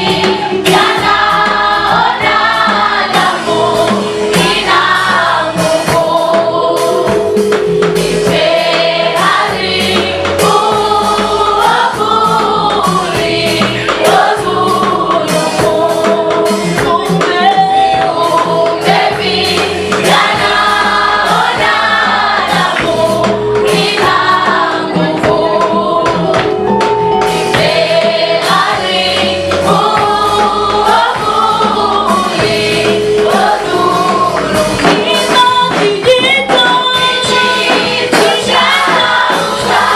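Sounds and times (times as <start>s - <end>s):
bass and percussion backing: 0.0s - 39.9s
choir singing gospel: 0.0s - 39.9s.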